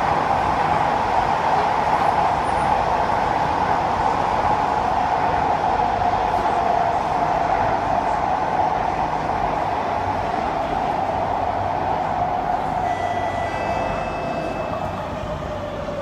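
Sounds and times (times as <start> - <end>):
metro train wheels on rail: 0.0 - 16.0.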